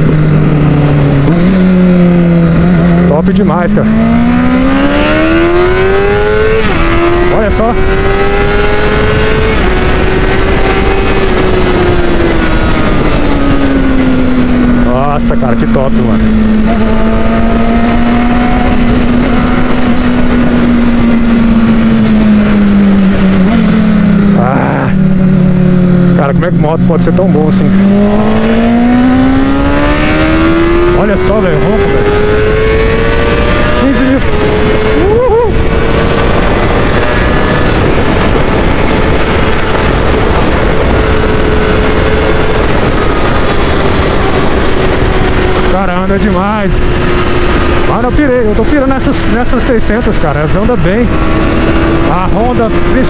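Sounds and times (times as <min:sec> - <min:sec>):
motorcycle engine at high revs: 0:00.0 - 0:53.0
wind rush over microphone: 0:00.0 - 0:53.0.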